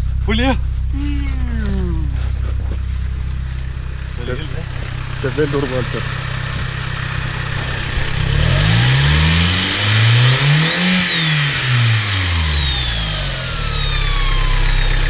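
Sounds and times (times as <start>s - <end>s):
car engine revving: 0.0s - 15.0s
turbo whine: 0.0s - 15.0s.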